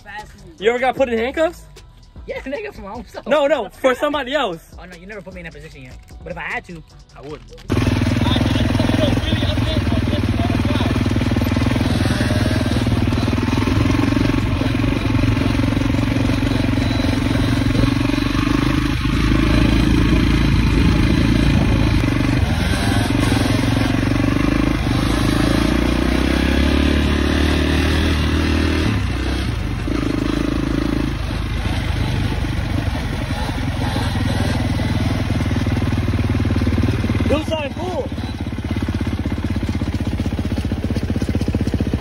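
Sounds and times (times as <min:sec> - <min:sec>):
off-road vehicle engine revving: 0:07.6 - 0:42.0.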